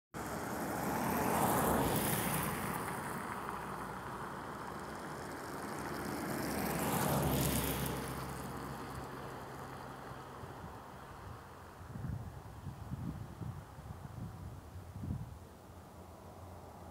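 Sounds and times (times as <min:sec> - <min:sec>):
passing vehicles rushing: 0:00.2 - 0:16.9.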